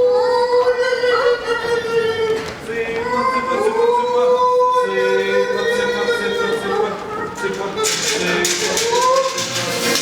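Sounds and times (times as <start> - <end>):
high voices singing: 0.0 - 10.0.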